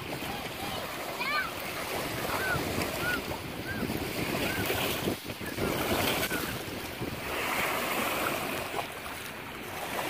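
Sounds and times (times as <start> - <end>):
water rushing past boat hull: 0.0 - 10.0
wind buffeting microphone: 0.0 - 10.0.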